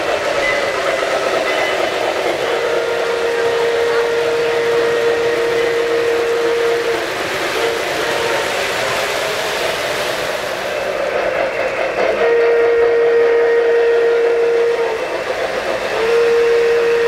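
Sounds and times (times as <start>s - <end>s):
model train wheels rumbling on track: 0.0s - 17.0s.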